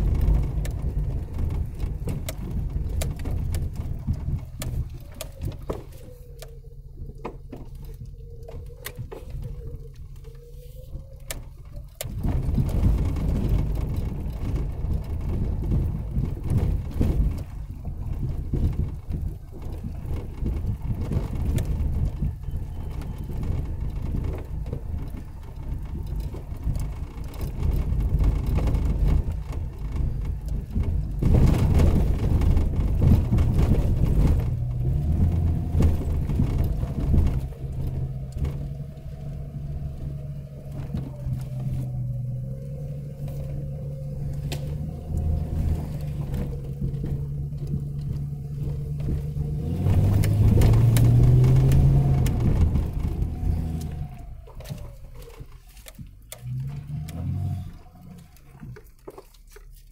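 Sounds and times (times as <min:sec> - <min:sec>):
vehicle engine rumble: 0:00.0 - 0:59.9
vehicle knocks and rattles: 0:00.0 - 0:59.9.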